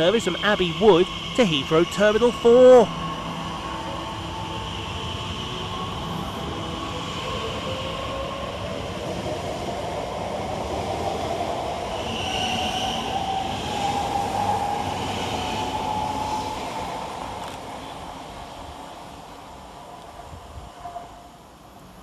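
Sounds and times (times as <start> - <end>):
train traction motor whine: 0.0 - 19.0.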